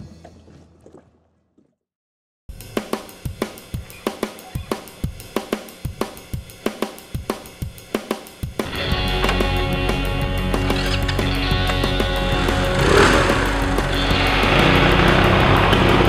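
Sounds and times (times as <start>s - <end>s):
drum kit playing steady beat: 2.5s - 16.0s.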